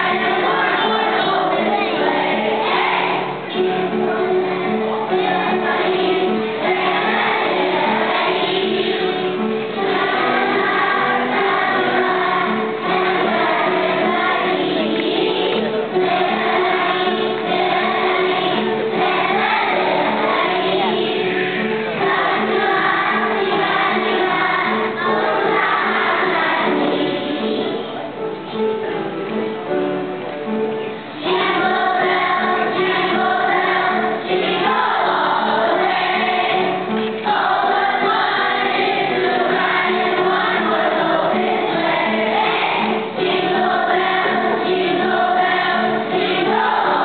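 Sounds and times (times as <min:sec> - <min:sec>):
children's choir singing: 0:00.0 - 0:47.0
instrumental accompaniment: 0:00.0 - 0:47.0.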